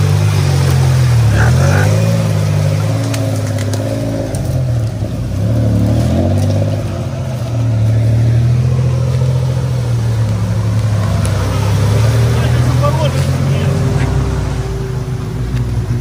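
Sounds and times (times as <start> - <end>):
off-road engine labouring: 0.0 - 16.0
vehicle driving through mud and water: 0.0 - 16.0.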